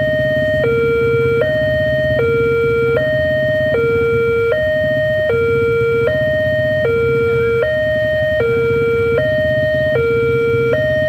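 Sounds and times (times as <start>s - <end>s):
two-tone level crossing alarm: 0.0s - 11.0s.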